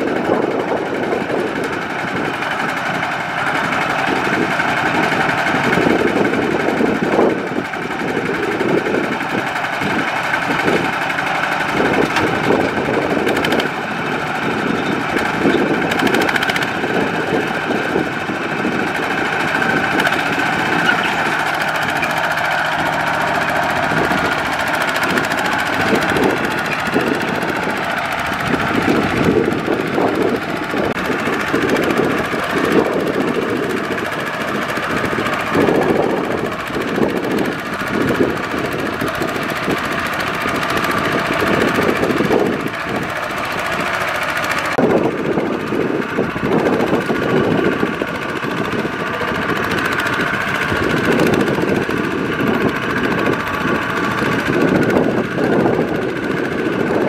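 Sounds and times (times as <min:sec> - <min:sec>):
diesel engine knocking: 0:00.0 - 0:57.0.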